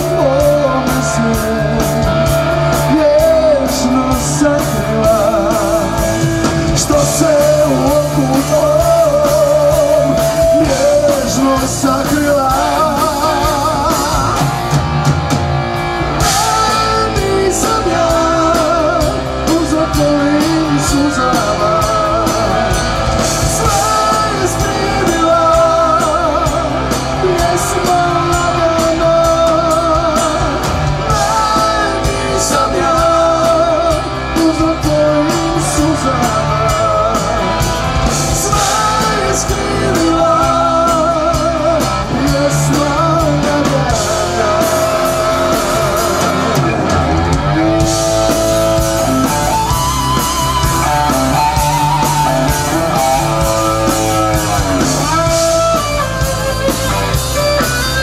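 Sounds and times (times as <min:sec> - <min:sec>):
person singing: 0:00.0 - 0:14.8, 0:16.2 - 0:58.0
bass guitar: 0:00.0 - 0:58.0
drum kit: 0:00.0 - 0:58.0
electric guitars: 0:00.0 - 0:58.0.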